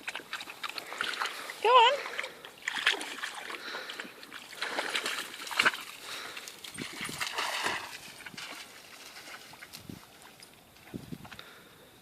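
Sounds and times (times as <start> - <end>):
splashing through shallow water: 0.0 - 11.6.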